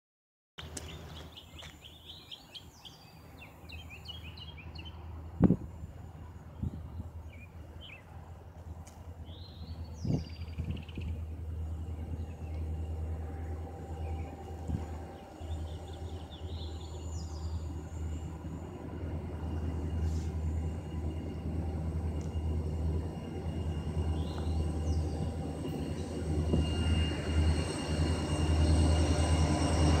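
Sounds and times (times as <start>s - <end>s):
distant diesel locomotive rumble: 0.6s - 30.0s.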